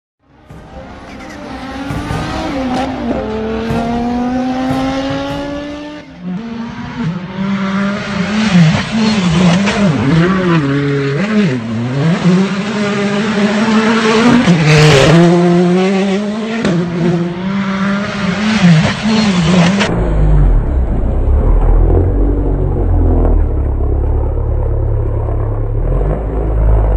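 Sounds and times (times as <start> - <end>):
rally car engine revving: 0.2 - 26.9.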